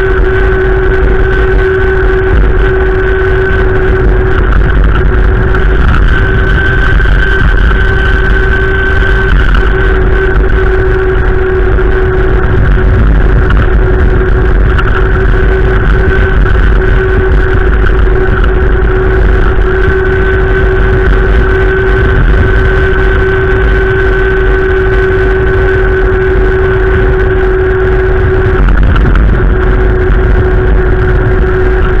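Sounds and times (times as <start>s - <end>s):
high whine: 0.0s - 32.0s
low hum: 0.0s - 32.0s
wind buffeting microphone: 0.0s - 32.0s.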